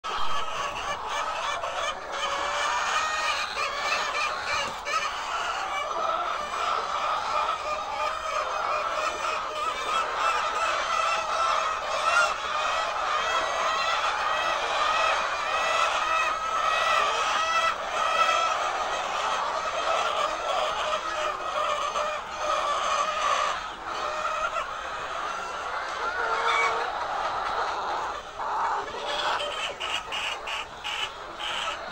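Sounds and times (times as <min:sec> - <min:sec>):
flock of hens clucking: 0:00.0 - 0:31.9.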